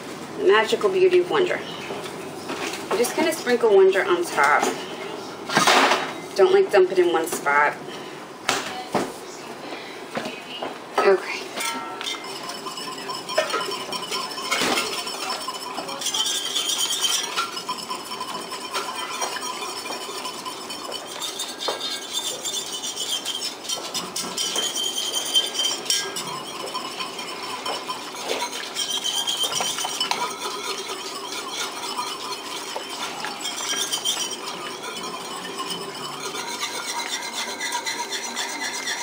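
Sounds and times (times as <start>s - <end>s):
whisk clinking and scraping pot: 0.0s - 5.7s, 11.0s - 39.0s.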